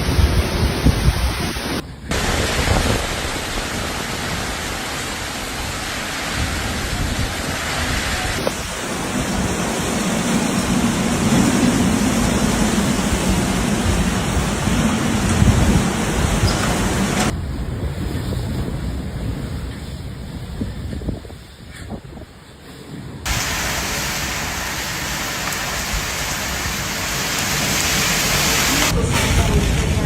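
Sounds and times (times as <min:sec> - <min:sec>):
heavy rain and strong wind: 0:00.0 - 0:30.0.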